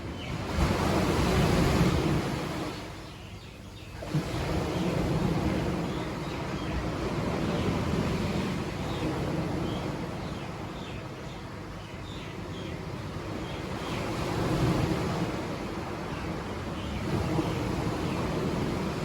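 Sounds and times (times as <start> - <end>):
sea waves washing onto shore: 0.0 - 19.0.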